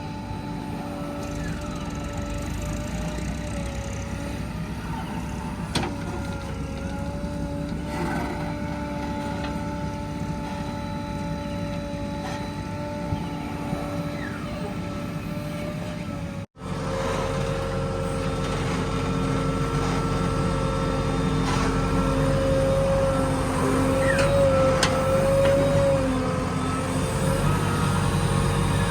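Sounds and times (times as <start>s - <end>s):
heavy machinery diesel engines: 0.0s - 28.9s.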